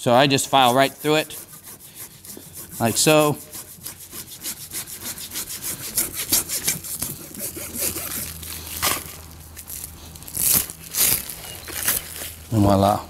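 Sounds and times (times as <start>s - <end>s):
rasp scraping across plastic wrap: 0.3s - 12.4s.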